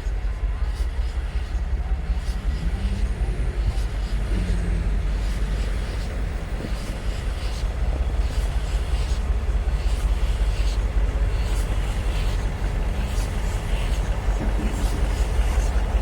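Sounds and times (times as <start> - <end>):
faint repeating beat: 0.0 - 16.0
train rumbling: 0.0 - 16.0.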